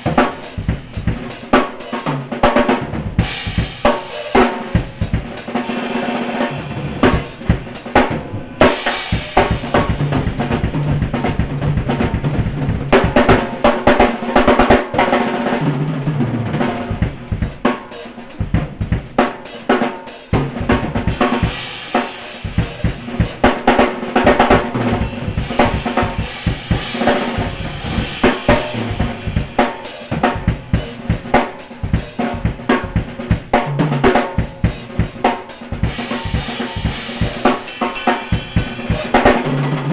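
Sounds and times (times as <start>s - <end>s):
drum kit solo with cymbals: 0.0s - 39.9s.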